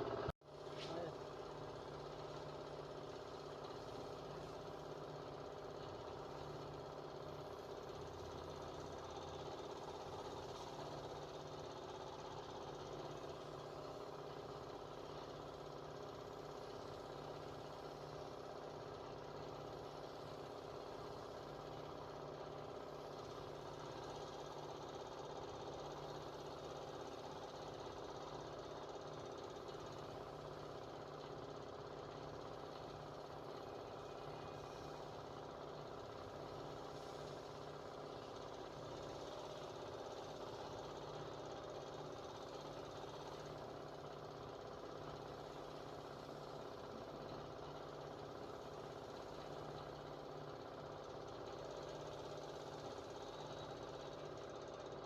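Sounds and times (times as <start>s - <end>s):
faint motor hum: 0.0s - 55.0s.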